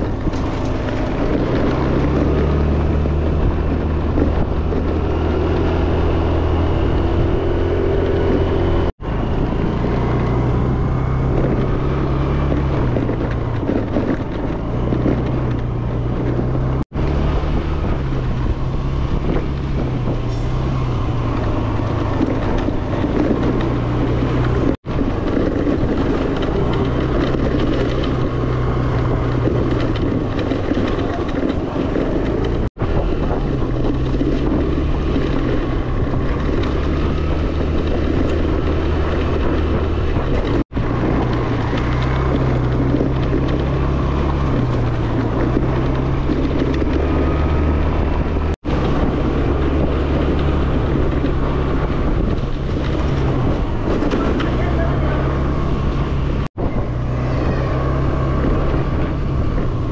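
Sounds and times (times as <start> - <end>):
scooter engine running: 0.0 - 59.9
wind rushing over microphone: 0.0 - 59.9.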